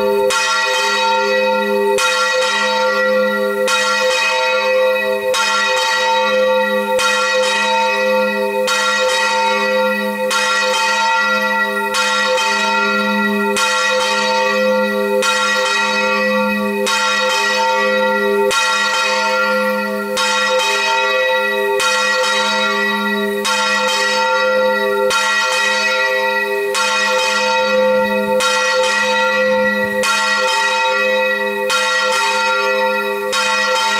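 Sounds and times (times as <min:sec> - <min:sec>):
church bell ringing: 0:00.0 - 0:33.9.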